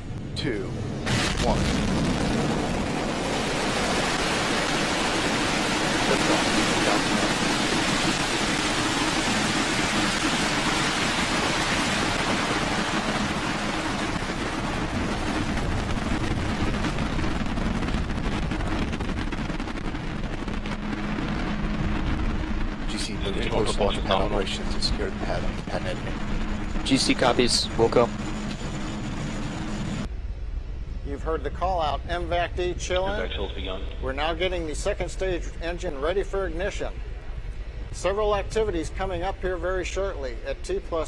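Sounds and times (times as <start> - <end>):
rocket exhaust roar: 0.0 - 41.0.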